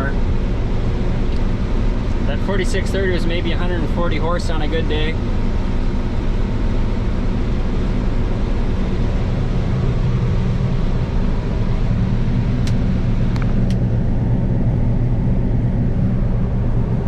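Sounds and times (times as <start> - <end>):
combine harvester drone: 0.0 - 17.0.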